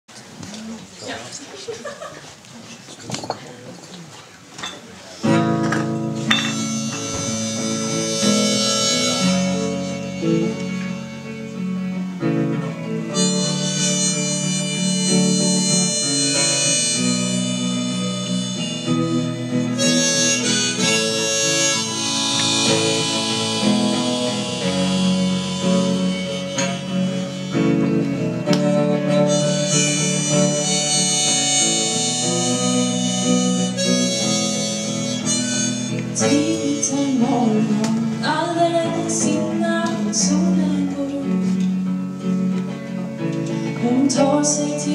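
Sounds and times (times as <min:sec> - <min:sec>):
guitar playing: 0:05.1 - 0:44.9
harmonica melody: 0:05.2 - 0:44.9.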